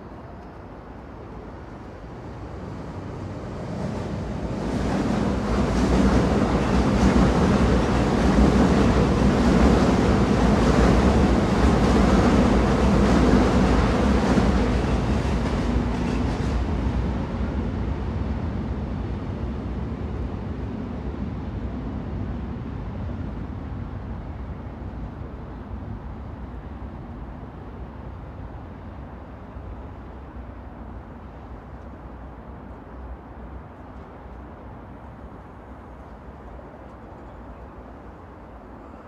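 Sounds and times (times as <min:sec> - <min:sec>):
train rumbling past: 0:00.0 - 0:39.0.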